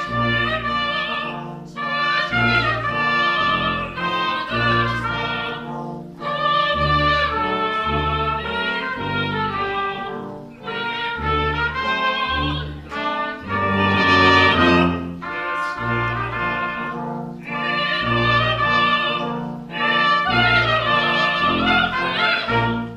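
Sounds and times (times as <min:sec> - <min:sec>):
brass ensemble playing classical piece: 0:00.0 - 0:22.9.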